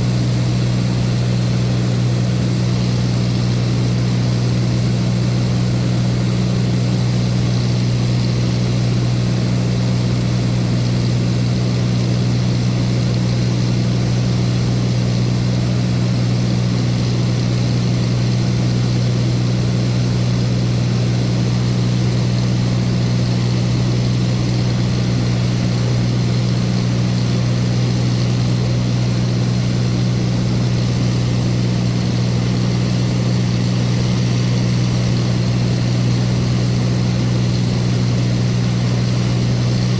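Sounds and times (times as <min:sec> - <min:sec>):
propeller aircraft engine hum: 0:00.0 - 0:39.9.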